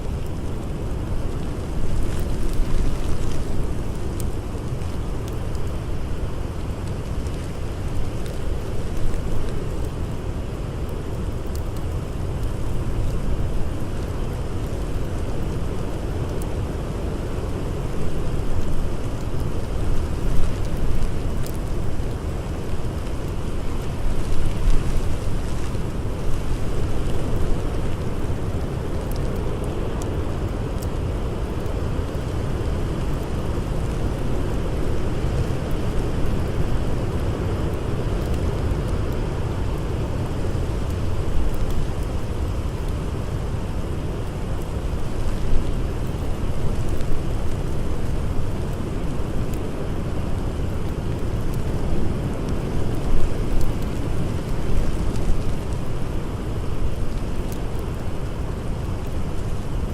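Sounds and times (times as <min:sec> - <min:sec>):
blizzard wind blowing: 0:00.0 - 0:59.9
wood fire crackling: 0:00.0 - 0:59.9.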